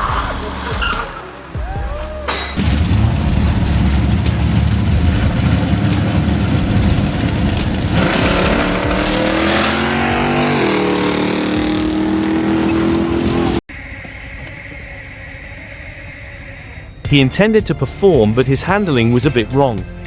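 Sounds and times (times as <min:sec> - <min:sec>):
vehicle engine rumbling: 0:00.0 - 0:19.1.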